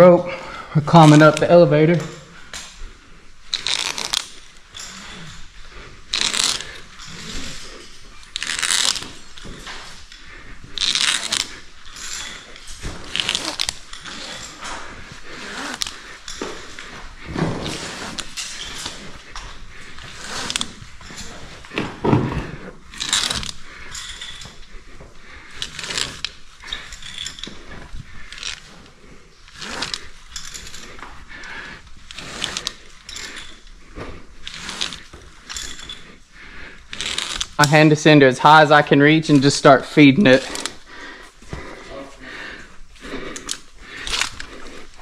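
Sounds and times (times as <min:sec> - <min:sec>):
rope scraping: 0:00.0 - 0:45.0
carabiners clicking and jangling: 0:00.8 - 0:45.0.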